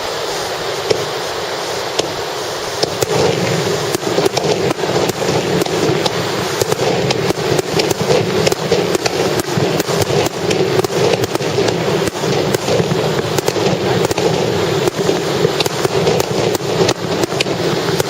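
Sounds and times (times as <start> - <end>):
distant fireworks bursts: 0.0 - 18.0
steady rushing background: 2.7 - 18.0.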